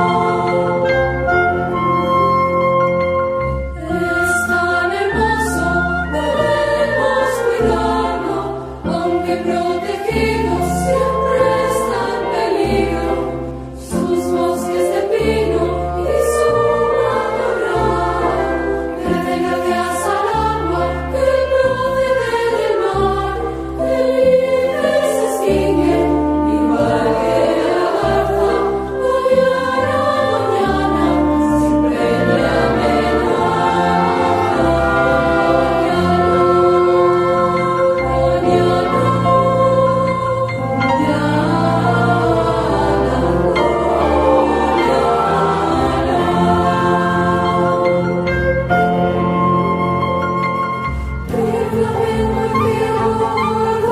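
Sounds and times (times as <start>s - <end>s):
choir singing: 0.0s - 53.9s
musical accompaniment with bass: 0.0s - 53.9s.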